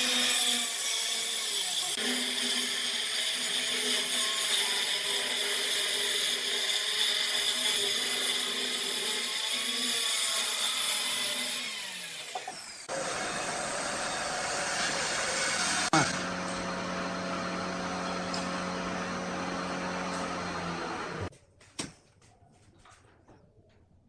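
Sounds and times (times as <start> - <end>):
power tool cutting wood: 0.0 - 21.3.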